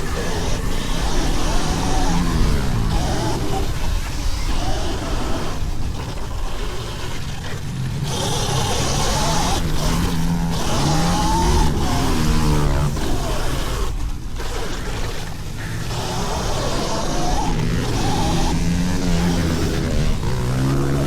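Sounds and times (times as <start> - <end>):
dirt bike motor revving: 0.0 - 21.0.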